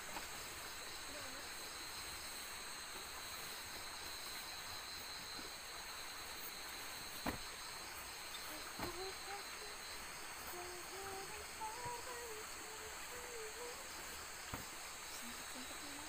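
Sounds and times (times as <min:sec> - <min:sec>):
faint hiss: 0:00.0 - 0:16.0
night insects chirping: 0:00.0 - 0:16.0.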